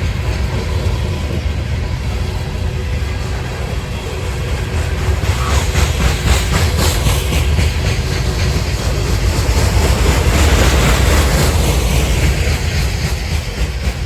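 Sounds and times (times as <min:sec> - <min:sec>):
clickety-clack over rail joints: 0:00.0 - 0:14.0
train wheels rumbling on rails: 0:00.0 - 0:14.0.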